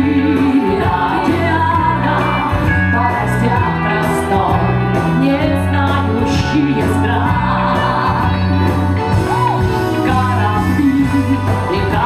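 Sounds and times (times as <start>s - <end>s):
woman singing: 0.0s - 9.1s, 9.8s - 12.0s
pop song with pulsing bass: 0.0s - 12.0s.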